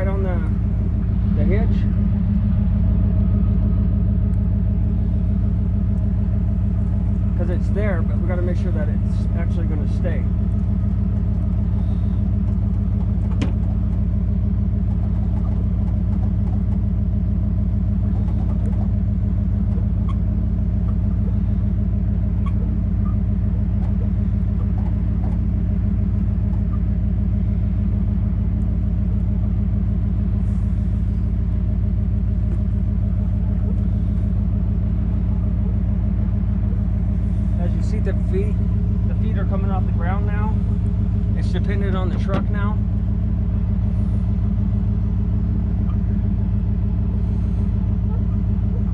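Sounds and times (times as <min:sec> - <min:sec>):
pickup truck engine idling: 0:00.0 - 0:48.9.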